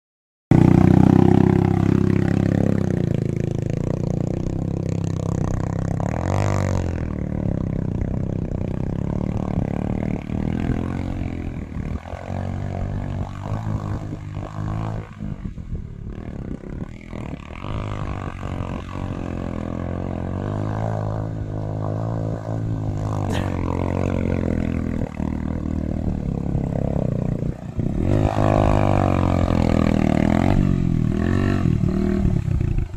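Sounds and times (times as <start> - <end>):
motorcycle engine revving: 0.5 - 32.9.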